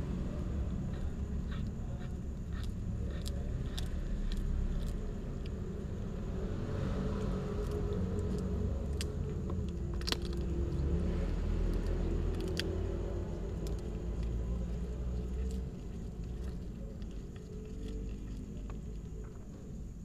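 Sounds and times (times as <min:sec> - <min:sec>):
steady low rumble: 0:00.0 - 0:20.0
cats chewing food: 0:00.3 - 0:20.0.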